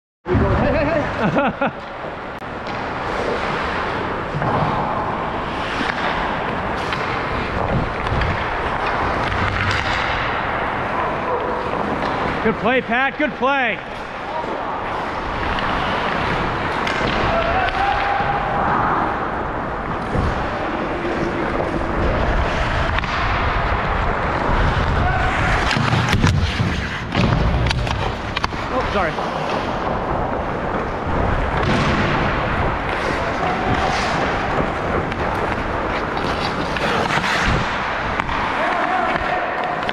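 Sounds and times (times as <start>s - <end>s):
skate blades scraping ice: 1.1s - 12.8s, 13.8s - 39.9s
hockey stick and puck clacks: 1.7s - 39.9s.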